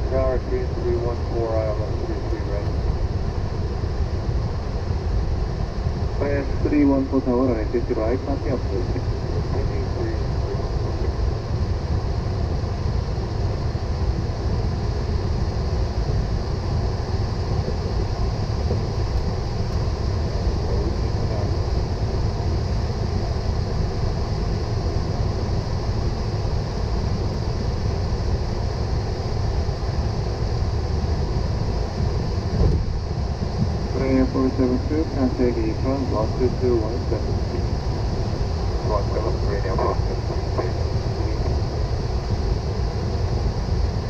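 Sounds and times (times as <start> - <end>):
aircraft taxiing rumble: 0.0 - 44.0.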